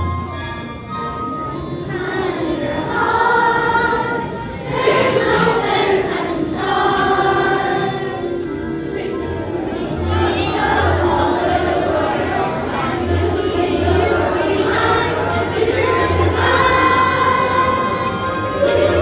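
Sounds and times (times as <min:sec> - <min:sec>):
children's choir singing: 0:00.0 - 0:19.0
music: 0:00.0 - 0:19.0.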